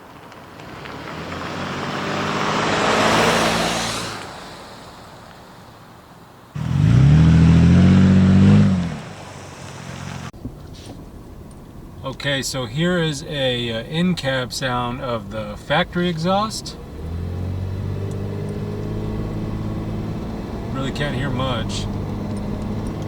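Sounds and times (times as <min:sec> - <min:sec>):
engine and exhaust accelerating: 0:00.0 - 0:04.9, 0:06.6 - 0:23.0.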